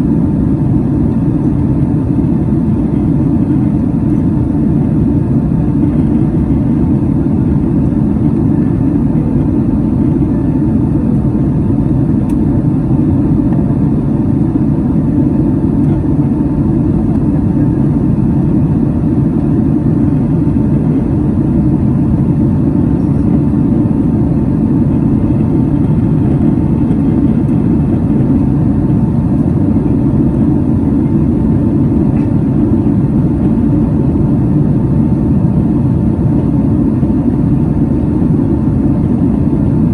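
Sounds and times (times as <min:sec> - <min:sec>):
faint steady whine: 0:00.0 - 0:39.9
jet engine cabin rumble: 0:00.0 - 0:39.9.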